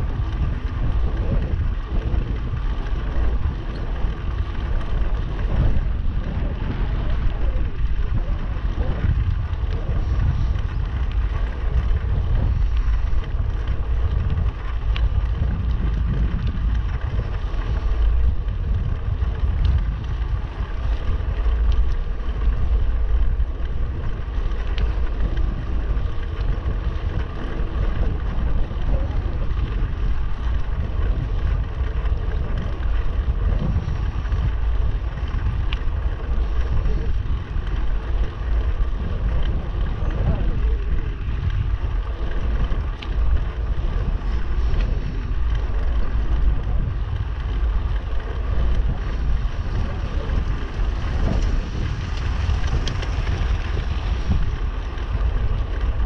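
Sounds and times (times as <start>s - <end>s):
wind buffeting microphone: 0.0s - 56.0s
faint ticks: 0.1s - 56.0s.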